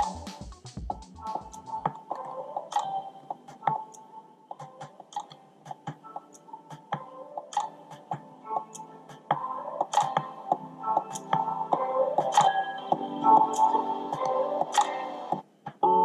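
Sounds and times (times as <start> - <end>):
music from headphone earcup: 0.0 - 16.0.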